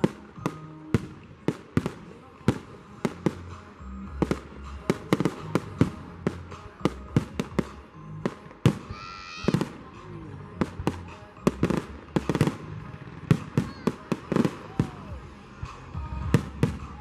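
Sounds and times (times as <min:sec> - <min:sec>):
fireworks bangs and cracks: 0:00.0 - 0:10.0, 0:10.6 - 0:17.0
music playing: 0:00.0 - 0:17.0.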